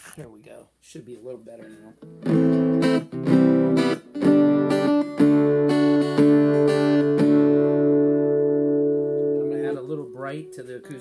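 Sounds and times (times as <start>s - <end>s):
guitar chords strummed: 1.6s - 11.0s.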